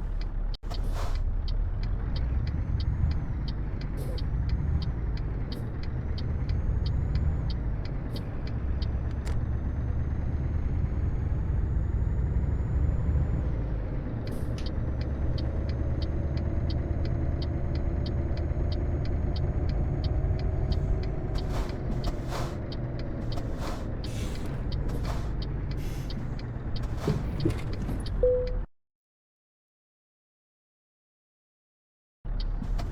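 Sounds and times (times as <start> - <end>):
diesel engine rumbling: 0.0 - 28.7, 32.3 - 32.9.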